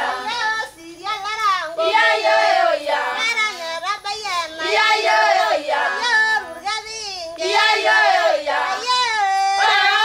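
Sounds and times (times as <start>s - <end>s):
women singing together: 0.0s - 10.0s.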